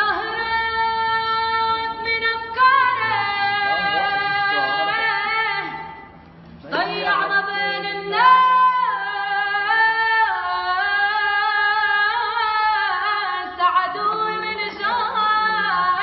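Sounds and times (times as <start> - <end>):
girl singing a capella: 0.0 - 6.1, 6.7 - 16.0.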